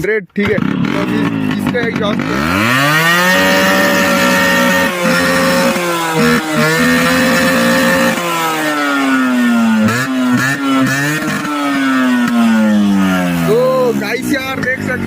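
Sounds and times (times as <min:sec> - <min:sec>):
two-stroke motorcycle engine revving: 0:00.0 - 0:15.0
exhaust backfire cracks: 0:00.4 - 0:13.5.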